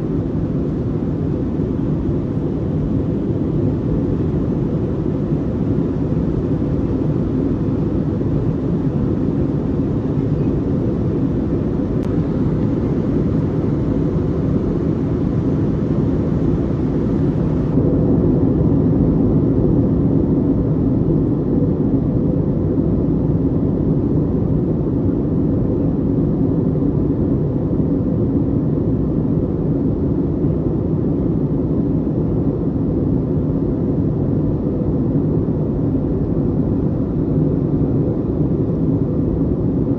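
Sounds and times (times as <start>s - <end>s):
faint steady hum: 0.0s - 39.9s
jet engine and airflow drone: 0.0s - 39.9s.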